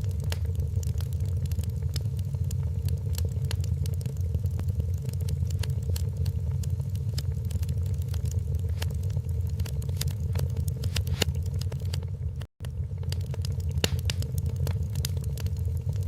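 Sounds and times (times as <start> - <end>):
steady low rumble: 0.0 - 16.0
wood fire crackling and popping: 0.0 - 16.0.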